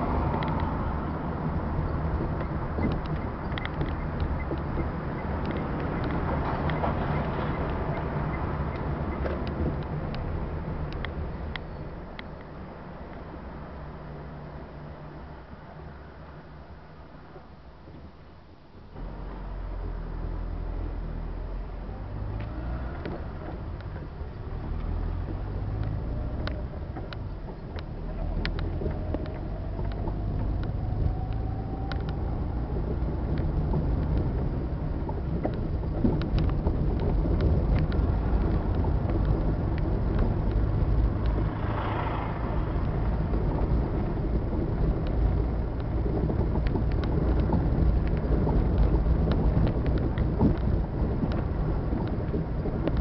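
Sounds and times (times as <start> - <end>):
engine and road rumble: 0.0 - 53.0.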